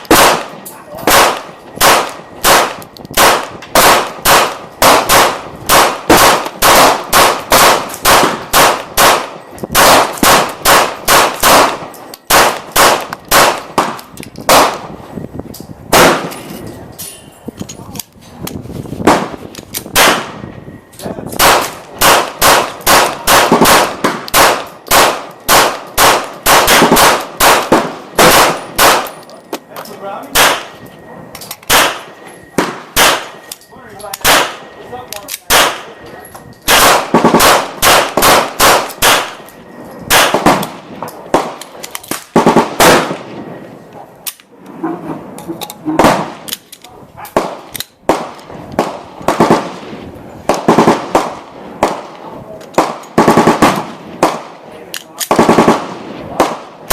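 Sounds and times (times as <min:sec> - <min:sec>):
pistol shots: 0:00.0 - 0:14.9, 0:15.9 - 0:16.5, 0:19.0 - 0:20.5, 0:21.3 - 0:29.7, 0:30.3 - 0:30.8, 0:31.5 - 0:36.0, 0:36.6 - 0:43.6, 0:46.0 - 0:46.6, 0:47.3 - 0:56.9.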